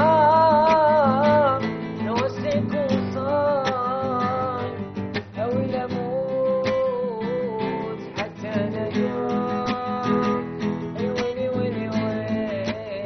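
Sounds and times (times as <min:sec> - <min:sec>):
classical guitar strumming: 0:00.0 - 0:13.0
man singing: 0:00.0 - 0:13.0.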